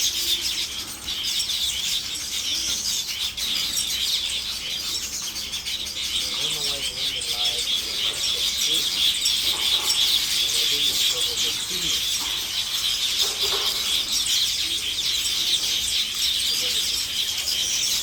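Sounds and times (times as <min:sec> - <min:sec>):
weaver birds chattering: 0:00.0 - 0:18.0.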